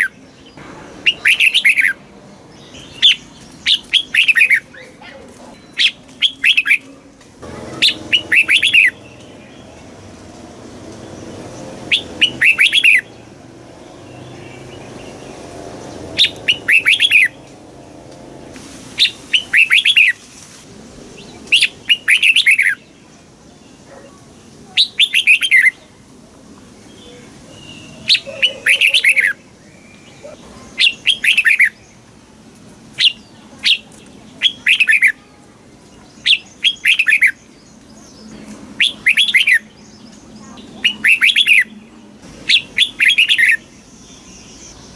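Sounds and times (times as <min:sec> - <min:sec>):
bird singing chattering phrases: 0:00.0 - 0:20.2, 0:21.1 - 0:26.1, 0:26.9 - 0:32.3, 0:32.9 - 0:44.9
faint background noise: 0:00.0 - 0:44.9.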